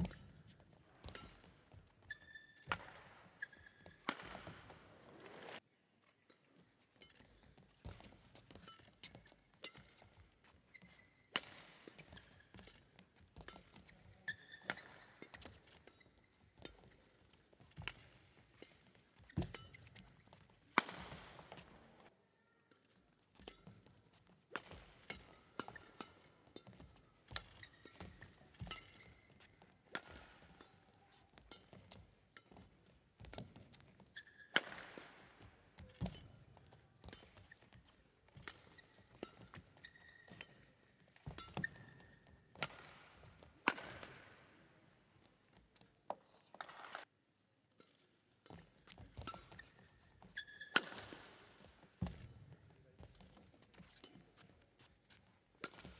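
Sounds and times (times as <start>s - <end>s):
rackets hitting shuttlecock: 0.0s - 5.6s, 6.4s - 21.8s, 22.7s - 44.5s, 47.8s - 55.9s
shoes squeaking: 0.0s - 5.6s, 6.6s - 22.1s, 22.9s - 44.2s, 47.8s - 55.9s.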